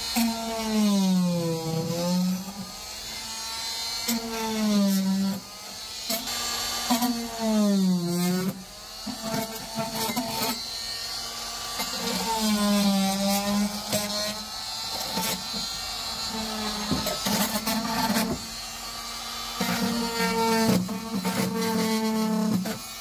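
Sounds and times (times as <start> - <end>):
oscillating multi-tool buzzing: 0.0 - 23.0.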